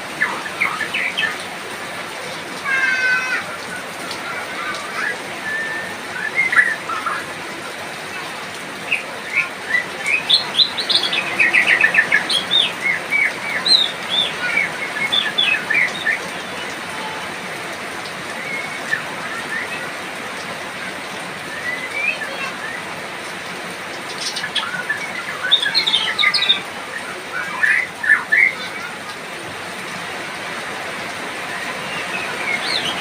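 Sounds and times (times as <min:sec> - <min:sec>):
falling rain hiss: 0:00.0 - 0:33.0.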